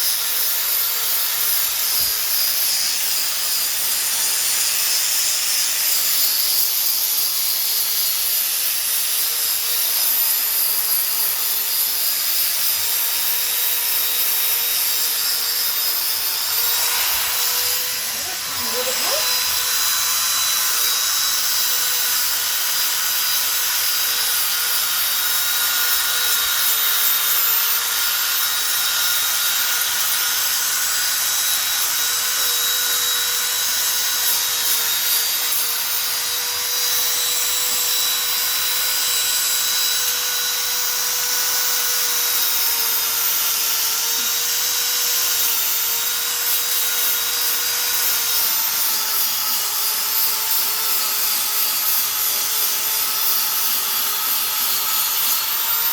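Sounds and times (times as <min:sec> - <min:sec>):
power sander on wood: 0:00.0 - 0:55.9.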